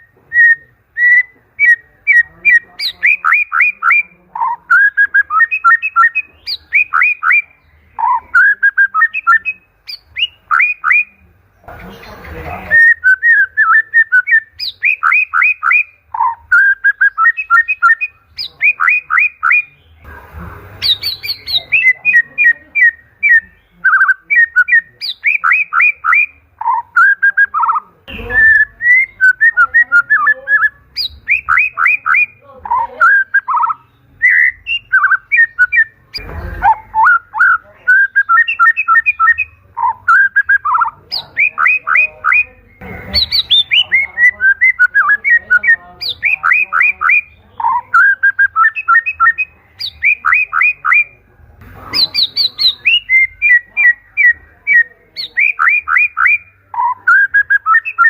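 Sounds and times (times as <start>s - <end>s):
bird singing whistled phrases: 0.0s - 11.2s, 12.1s - 20.0s, 20.8s - 51.2s, 51.9s - 58.0s.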